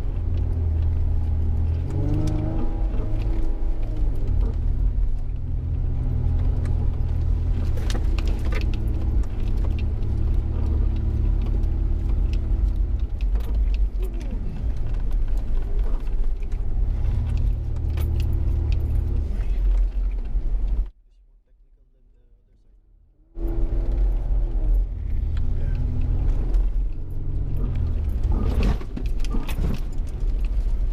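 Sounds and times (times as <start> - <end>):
off-road vehicle engine running: 0.0 - 20.9, 23.3 - 30.9
vehicle rattles and knocks: 0.0 - 20.9, 23.4 - 30.9.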